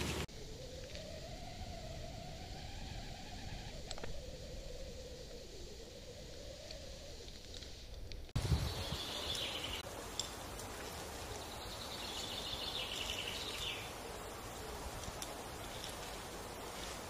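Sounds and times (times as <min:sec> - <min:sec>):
rustling hiss: 0:00.0 - 0:17.0.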